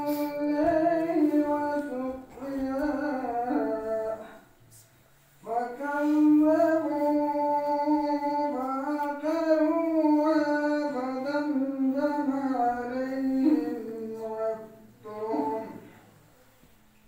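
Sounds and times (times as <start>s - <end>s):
person chanting: 0.0s - 4.8s, 5.4s - 16.1s.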